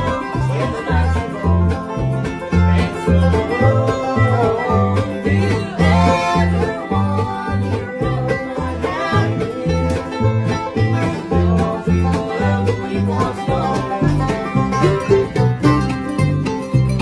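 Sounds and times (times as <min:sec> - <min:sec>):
banjo picking quick rolls: 0:00.0 - 0:17.0
strummed acoustic guitar: 0:00.0 - 0:17.0
upright bass plucking: 0:00.0 - 0:17.0.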